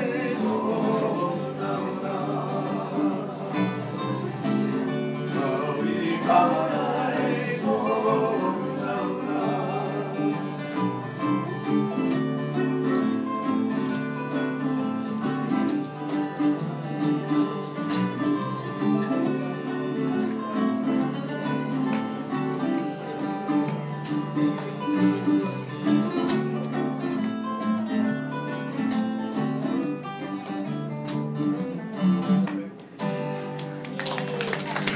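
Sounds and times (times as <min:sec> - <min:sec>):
acoustic guitars playing: 0:00.0 - 0:34.9.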